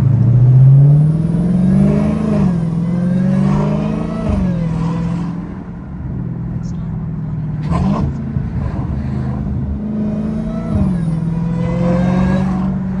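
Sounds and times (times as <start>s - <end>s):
car engine running: 0.0s - 13.0s
loud exhaust crack: 0.0s - 13.0s.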